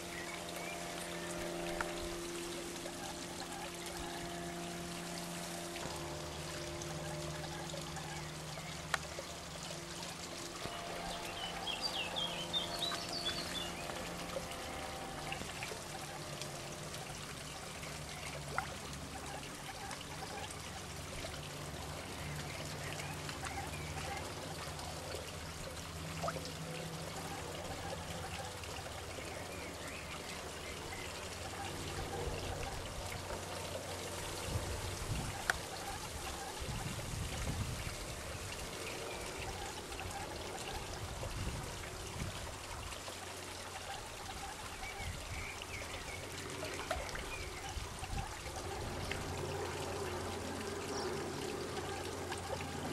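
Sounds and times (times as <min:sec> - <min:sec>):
water trickling into pond: 0:00.0 - 0:52.9.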